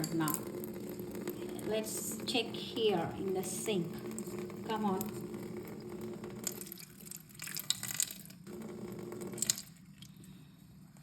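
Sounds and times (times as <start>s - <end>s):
powder fizzing and crackling: 0.0s - 10.3s.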